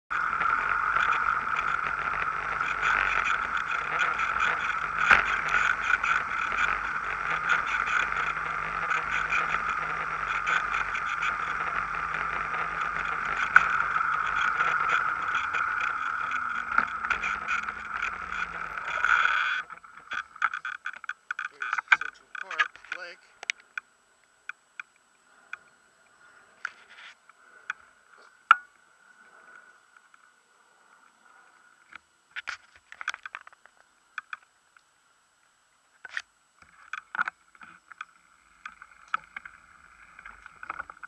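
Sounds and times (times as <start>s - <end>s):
bicycle road noise: 0.0s - 41.0s
small rattles and clicks: 0.1s - 25.7s, 31.8s - 34.9s, 36.0s - 41.0s.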